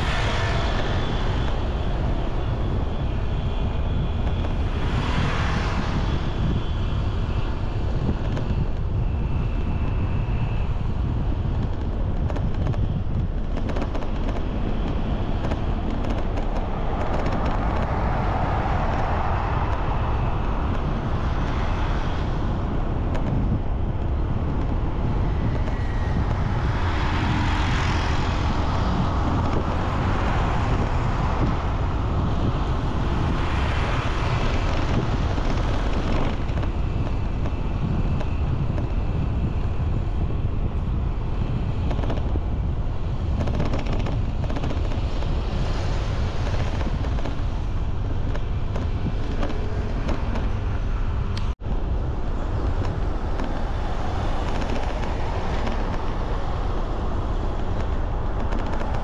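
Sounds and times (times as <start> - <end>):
vehicles passing: 0.0 - 59.0
wind rumbling on microphone: 0.0 - 59.0.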